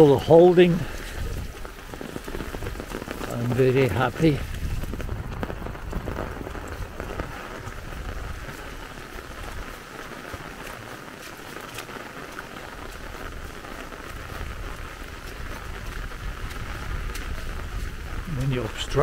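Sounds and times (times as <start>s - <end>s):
raindrops ticking on umbrella: 0.0s - 19.0s
steady rain falling: 0.0s - 19.0s.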